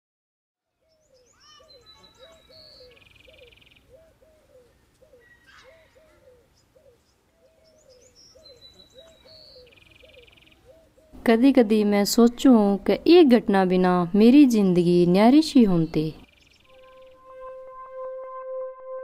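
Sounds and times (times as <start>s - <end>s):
bird song with buzzy trill: 0.8s - 4.5s, 5.1s - 13.5s, 14.2s - 19.0s.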